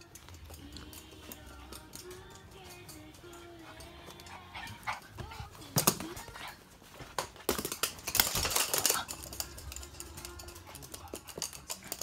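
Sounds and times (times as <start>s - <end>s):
dog claws clicking on floor: 0.0s - 12.0s.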